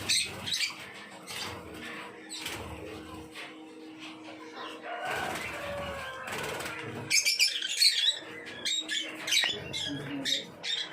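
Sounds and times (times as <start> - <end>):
lovebirds chirping and squawking: 0.0 - 10.9.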